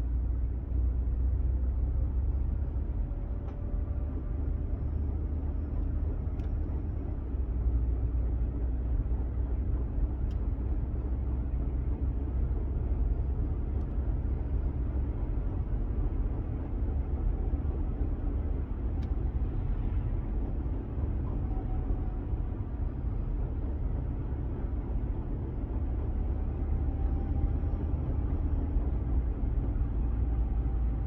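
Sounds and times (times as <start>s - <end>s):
car road noise rumble: 0.0s - 31.0s.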